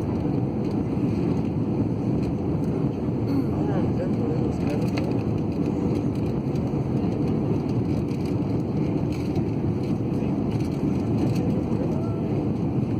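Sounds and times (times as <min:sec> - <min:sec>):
airliner cabin engine rumble: 0:00.0 - 0:12.9.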